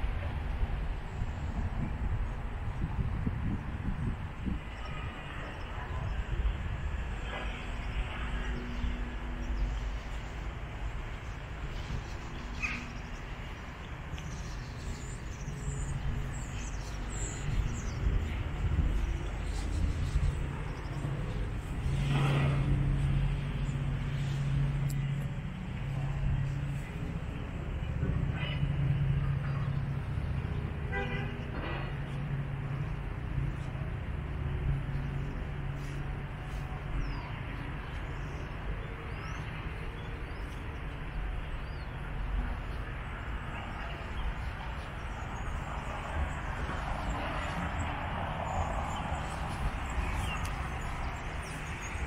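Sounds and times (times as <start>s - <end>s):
low town rumble: 0.0s - 52.0s
vehicle engine humming: 0.0s - 52.0s.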